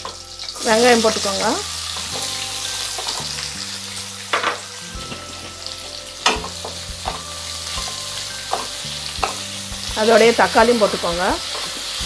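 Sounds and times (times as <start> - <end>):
onions sizzling in hot oil: 0.0 - 12.0
utensils scraping a pan: 0.0 - 12.0.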